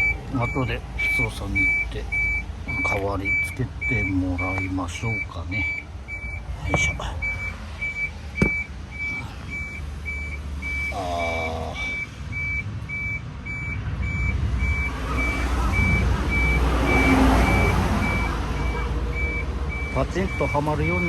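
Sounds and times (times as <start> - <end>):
vehicle warning beeper: 0.0 - 21.0.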